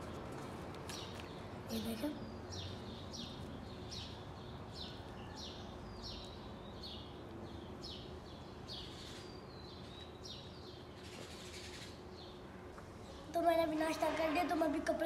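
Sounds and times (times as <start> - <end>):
bird chirping: 0.9 - 13.2.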